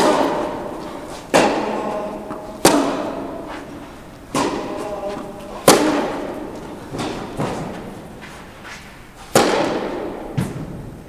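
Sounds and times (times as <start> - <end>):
tennis ball hits echoing: 0.0 - 8.2, 9.2 - 11.0.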